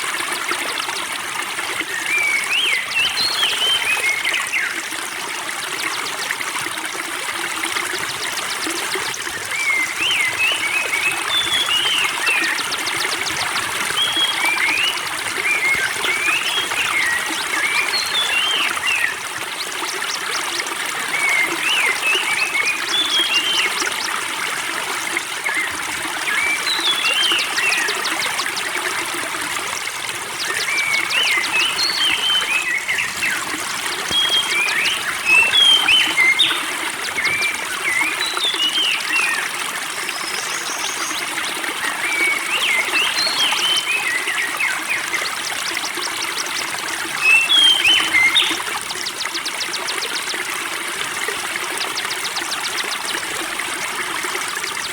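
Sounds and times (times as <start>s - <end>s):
spring water trickling: 0.0s - 54.9s
small birds chirping: 8.0s - 24.1s, 24.8s - 54.9s.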